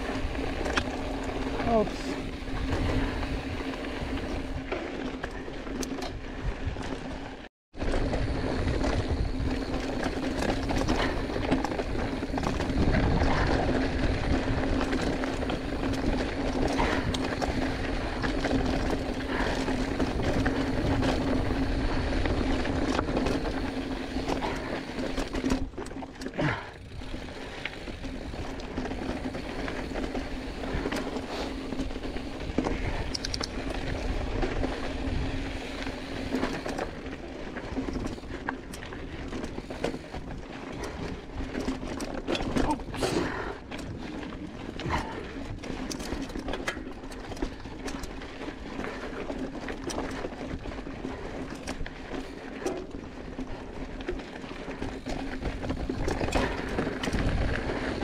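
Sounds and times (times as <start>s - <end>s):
bike tyres crunching on gravel: 0.0s - 58.0s.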